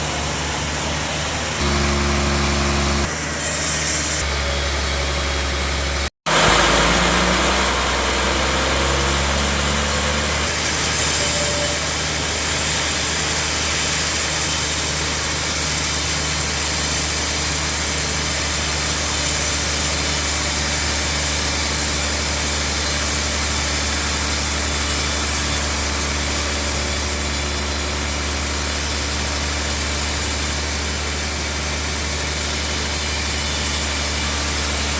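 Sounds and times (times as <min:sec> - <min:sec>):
sawmill machinery running: 0:00.0 - 0:34.9.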